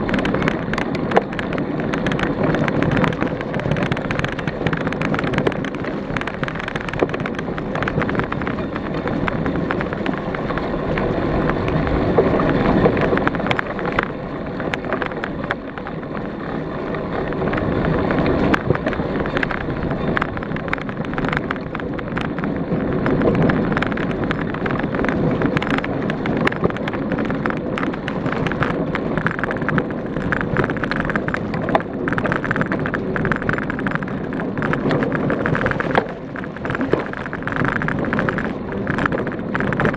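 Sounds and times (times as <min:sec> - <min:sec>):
bike clicks and rattles: 0:00.0 - 0:39.9
bike tyres rolling: 0:00.0 - 0:39.9
wind over microphone: 0:00.0 - 0:39.9.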